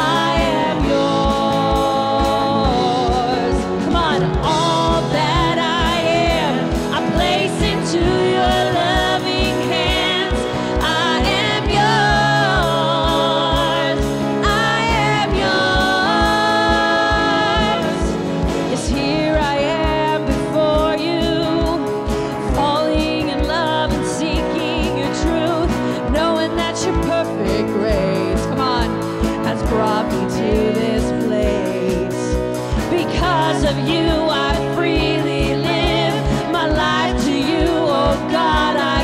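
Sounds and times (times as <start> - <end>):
guitars and keyboard: 0.0 - 39.0
women singing: 0.0 - 39.0.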